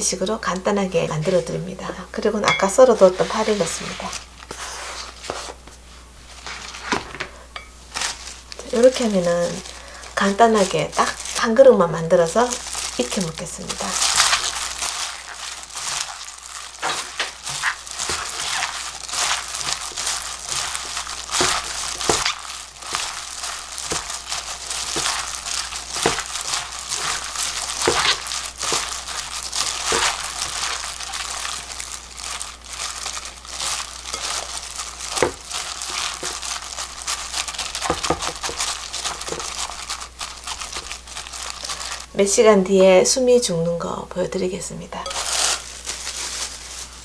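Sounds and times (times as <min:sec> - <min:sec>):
plastic glove crinkling: 0:00.0 - 0:43.5, 0:45.0 - 0:47.0.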